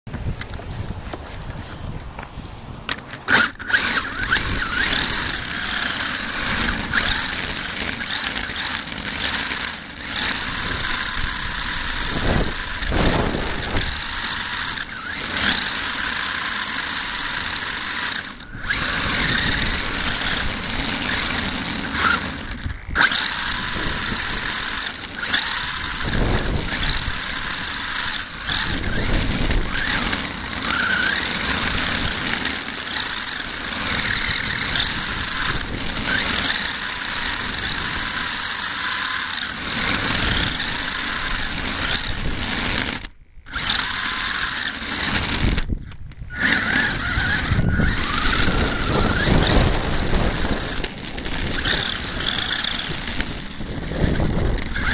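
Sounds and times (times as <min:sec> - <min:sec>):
rc car motor whining: 0:00.2 - 0:54.9.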